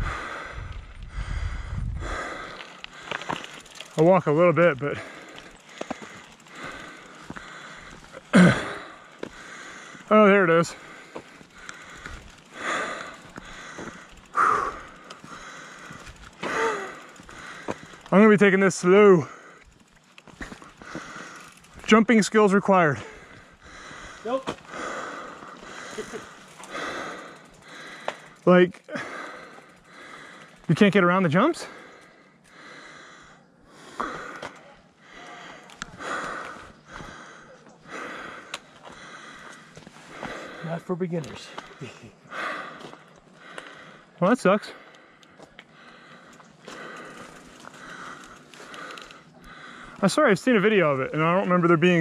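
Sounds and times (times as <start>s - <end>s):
person breathing heavily: 0.0s - 21.9s, 22.5s - 30.8s, 31.5s - 50.0s.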